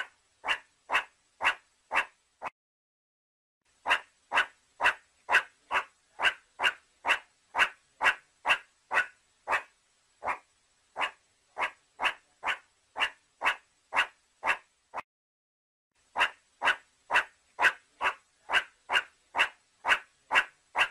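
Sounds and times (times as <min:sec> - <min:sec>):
meerkat barking calls: 0:00.0 - 0:02.5, 0:03.8 - 0:15.0, 0:16.1 - 0:20.9.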